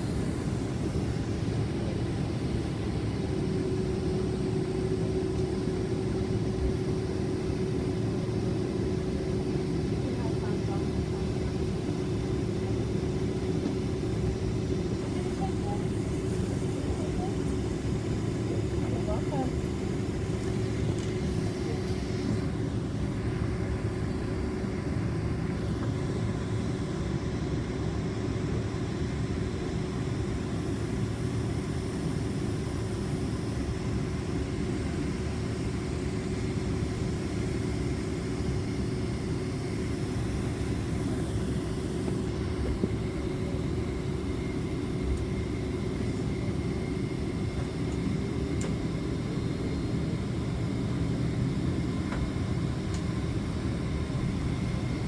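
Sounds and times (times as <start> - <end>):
airliner cabin engine rumble: 0.0 - 55.0
constant hum: 0.0 - 55.0.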